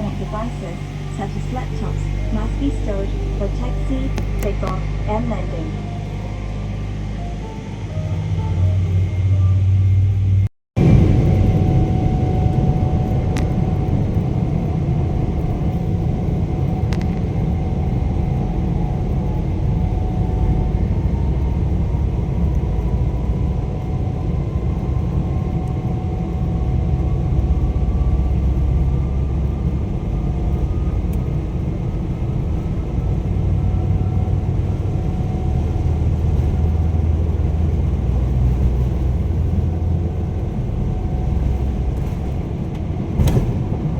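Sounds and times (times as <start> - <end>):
faint rising engine whine: 0.0 - 43.9
jet engine low rumble: 0.0 - 43.9.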